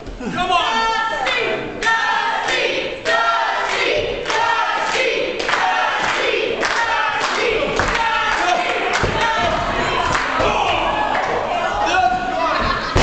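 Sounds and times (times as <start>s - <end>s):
crowd chanting in unison: 1.3s - 12.2s.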